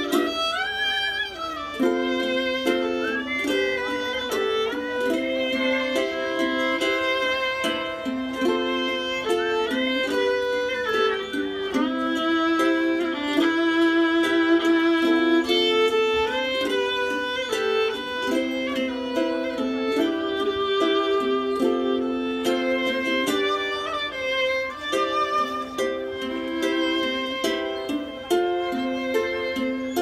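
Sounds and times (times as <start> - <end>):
violin melody: 0.0 - 30.0.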